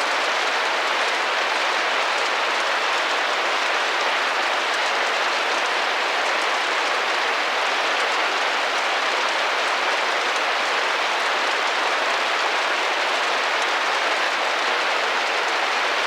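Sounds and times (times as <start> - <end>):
rain pattering on window: 0.0 - 16.0.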